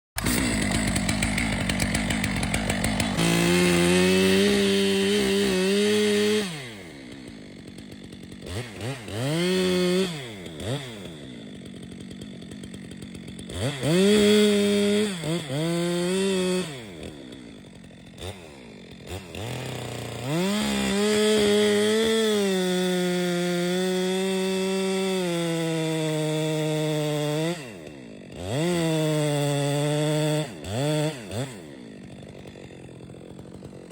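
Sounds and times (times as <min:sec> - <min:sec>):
chainsaw revving: 0:00.2 - 0:33.9.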